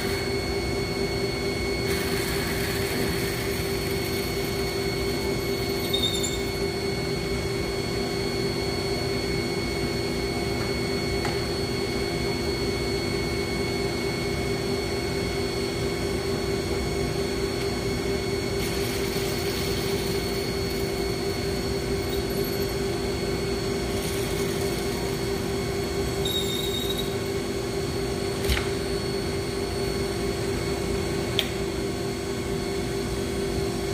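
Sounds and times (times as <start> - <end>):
milling machine humming: 0.0 - 33.9.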